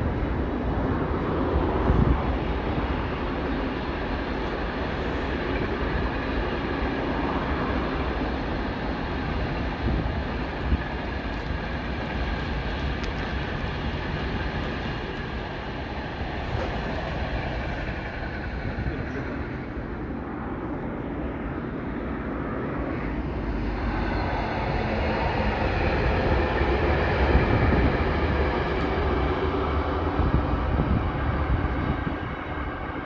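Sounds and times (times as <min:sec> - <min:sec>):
train wheels rolling on rails: 0:00.0 - 0:33.0.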